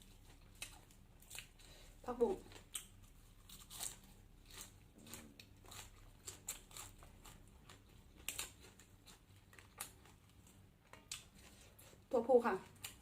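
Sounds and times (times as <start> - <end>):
person chewing crunchy vegetables: 0.0 - 13.0.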